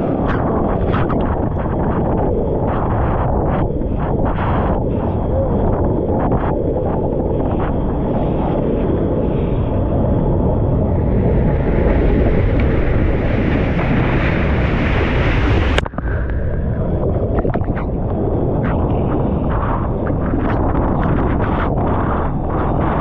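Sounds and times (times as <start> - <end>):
crackles and pops: 0.0 - 23.0
wind and water rushing on microphone: 0.0 - 23.0.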